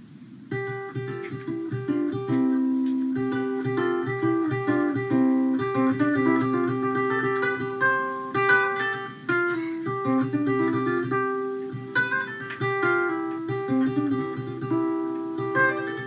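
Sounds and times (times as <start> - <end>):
ukulele playing: 0.5 - 16.0.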